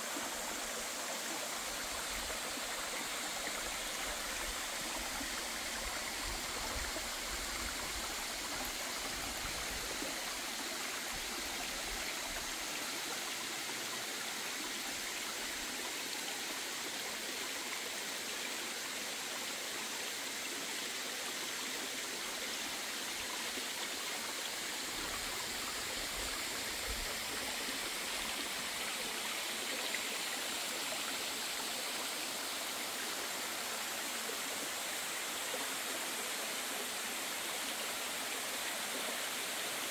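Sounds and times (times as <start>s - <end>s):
stream flowing over rocks: 0.0s - 39.9s
waterfall: 0.0s - 39.9s.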